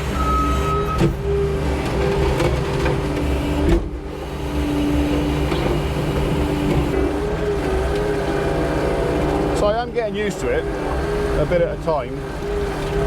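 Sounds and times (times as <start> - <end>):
skid steer engine and hydraulics drone: 0.0 - 13.0.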